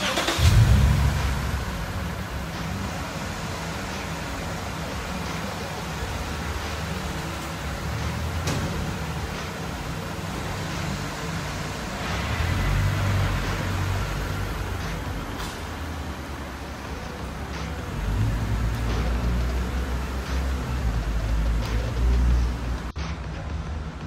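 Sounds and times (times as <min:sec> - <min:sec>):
car exhaust rumble: 0:00.0 - 0:24.0.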